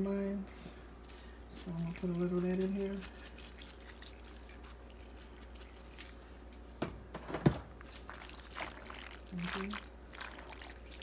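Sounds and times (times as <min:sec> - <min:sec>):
faint kitchen background: 0:00.0 - 0:11.0.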